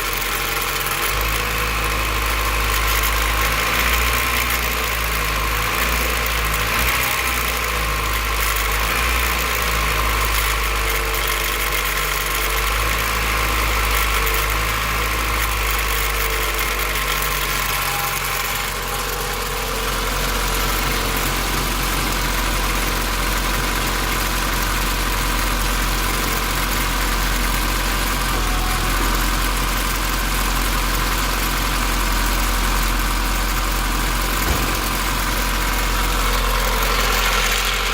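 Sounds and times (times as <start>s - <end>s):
car engine idling: 0.0s - 37.9s
engine rattle: 0.0s - 37.9s.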